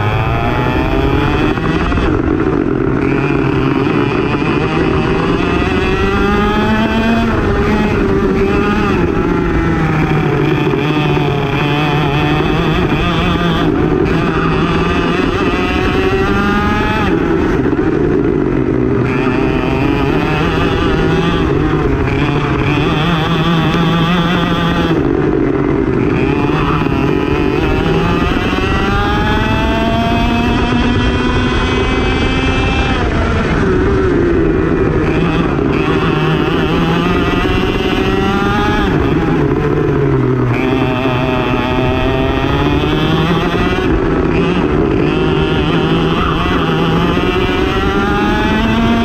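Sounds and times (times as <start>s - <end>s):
racing kart engine: 0.0s - 49.0s.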